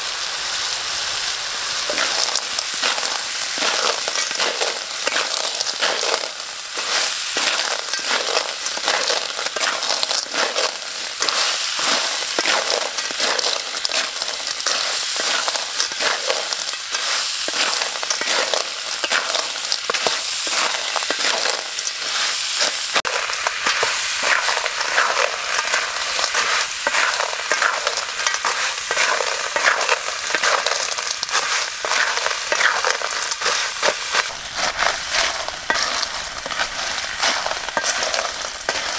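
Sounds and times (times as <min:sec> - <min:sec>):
food sizzling in a pan: 0:00.0 - 0:38.9
shells clicking and scraping: 0:01.9 - 0:38.9.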